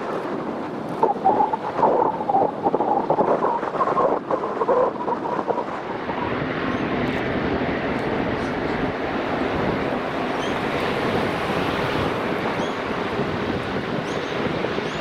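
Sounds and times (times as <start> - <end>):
airliner engine noise: 0.0 - 15.0.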